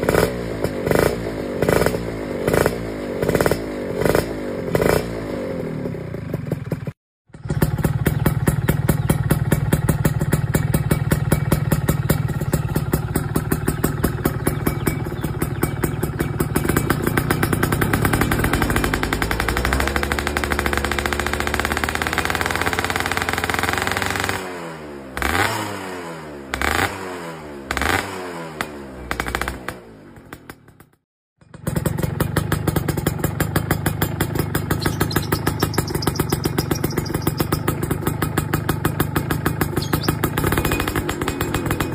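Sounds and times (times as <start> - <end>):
two-stroke engine revving: 0.0 - 41.9.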